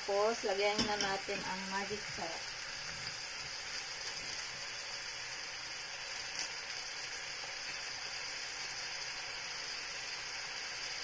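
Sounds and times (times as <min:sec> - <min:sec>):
chicken sizzling in frying pan: 0:00.0 - 0:11.0.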